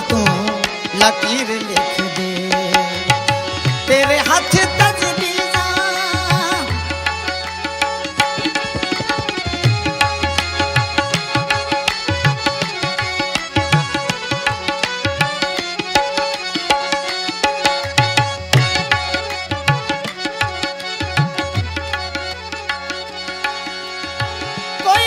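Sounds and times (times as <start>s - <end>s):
sustained melodic notes: 0.0s - 25.0s
hand drum rhythm: 1.7s - 22.1s.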